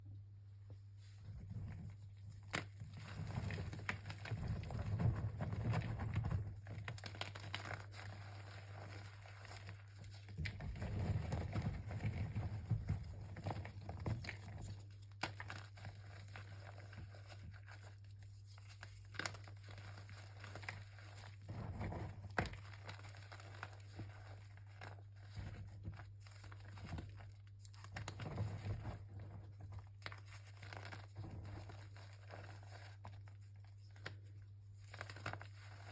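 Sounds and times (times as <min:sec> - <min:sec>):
wrapping crinkling and rustling: 0:01.0 - 0:35.9.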